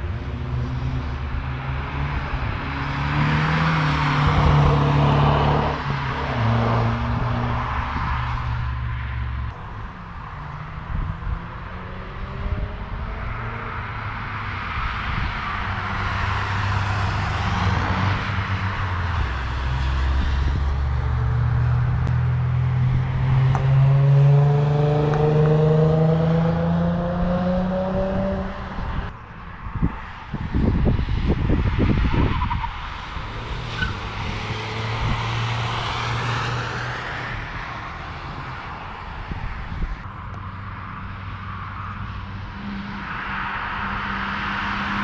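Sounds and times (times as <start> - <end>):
race cars driving past: 0.0 - 45.0.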